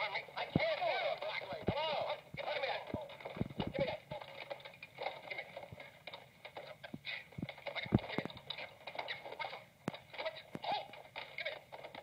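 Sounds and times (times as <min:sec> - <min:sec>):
people scuffling: 0:00.0 - 0:12.0.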